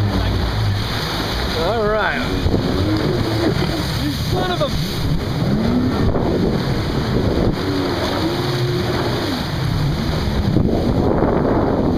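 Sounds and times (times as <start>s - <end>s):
churning spray: 0.0s - 11.2s
watercraft engines running: 0.0s - 11.9s
wind buffeting microphone: 0.0s - 11.9s.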